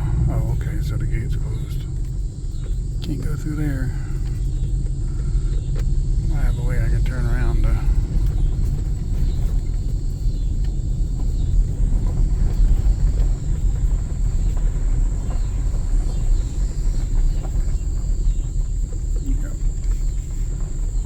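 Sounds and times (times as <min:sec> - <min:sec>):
faint high whine: 0:00.0 - 0:21.0
road noise: 0:00.0 - 0:21.0
vehicle engine rumble: 0:00.0 - 0:21.0.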